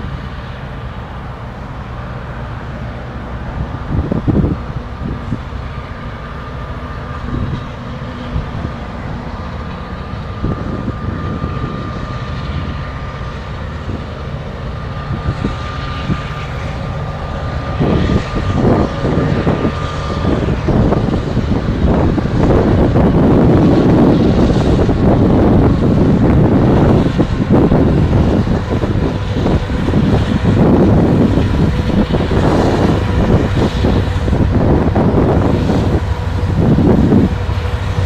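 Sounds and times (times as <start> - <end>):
freight train rumbling: 0.0 - 38.0
wind buffeting microphone: 0.0 - 38.0.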